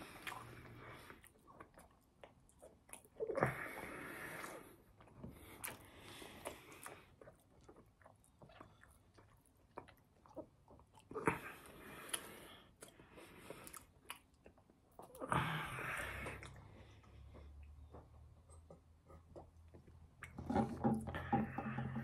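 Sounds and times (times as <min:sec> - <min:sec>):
person chewing with wet clicks: 0:00.0 - 0:03.6, 0:04.3 - 0:15.4, 0:16.0 - 0:20.4.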